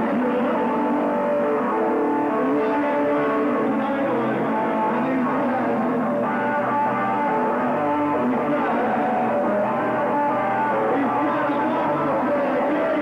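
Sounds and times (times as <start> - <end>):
electric guitar: 0.0 - 13.0
live rock band playing: 0.0 - 13.0.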